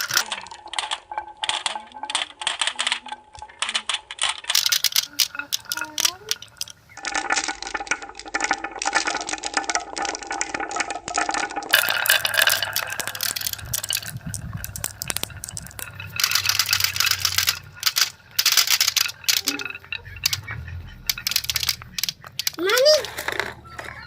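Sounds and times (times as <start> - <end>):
rattling and clicking: 0.0 - 24.0.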